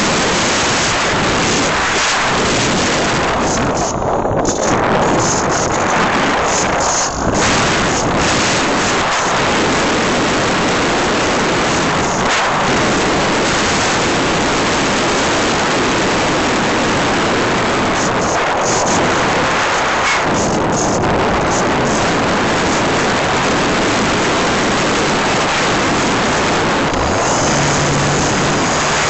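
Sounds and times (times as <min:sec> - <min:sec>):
light aircraft engine and wind: 0:00.0 - 0:29.0.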